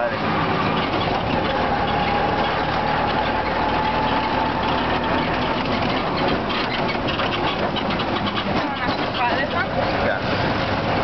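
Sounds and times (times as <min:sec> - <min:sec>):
road noise: 0:00.0 - 0:11.0
small engine running: 0:00.0 - 0:11.0.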